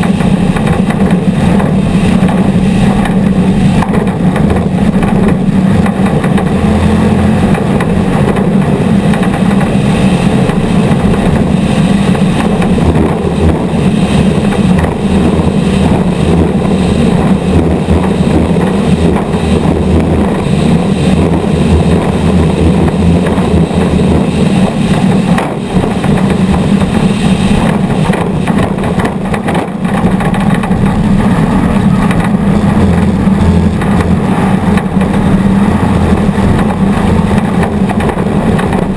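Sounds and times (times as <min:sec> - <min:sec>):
race vehicle engine running hard: 0:00.0 - 0:38.9.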